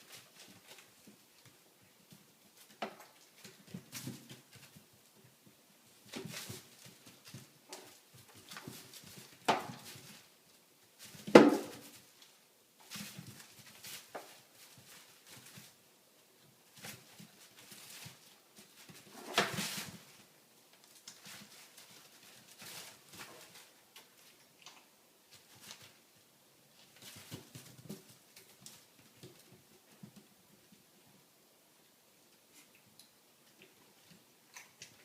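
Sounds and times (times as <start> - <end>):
puppies scuffling: 0.0 - 35.0.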